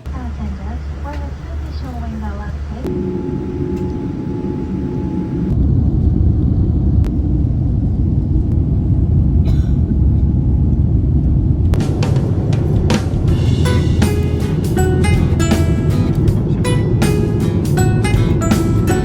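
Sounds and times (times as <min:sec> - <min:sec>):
airliner cabin engine rumble: 0:00.0 - 0:18.5.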